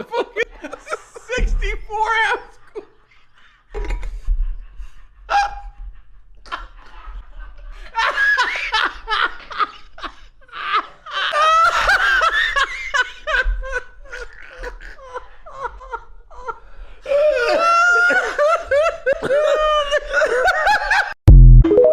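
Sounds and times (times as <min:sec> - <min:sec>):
people laughing: 0:00.0 - 0:04.7, 0:06.4 - 0:21.2.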